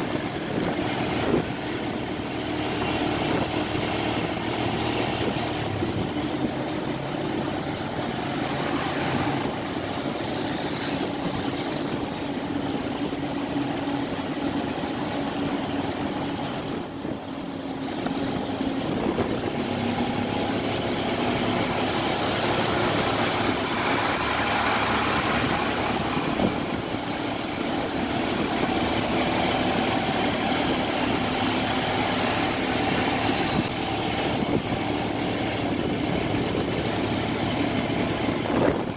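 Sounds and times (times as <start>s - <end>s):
road noise: 0.0s - 38.9s
vehicle engines running: 0.0s - 38.9s.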